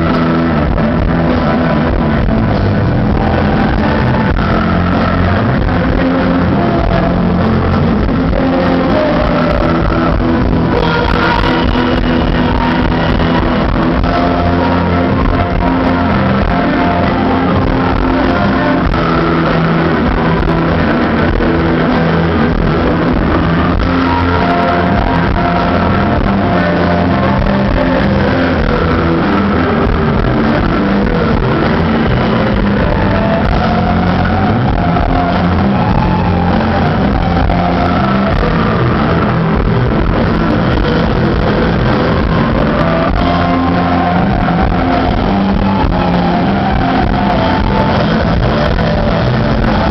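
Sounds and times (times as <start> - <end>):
bass guitar: 0.0 - 49.9
drums: 0.0 - 49.9
electric guitars: 0.0 - 49.9.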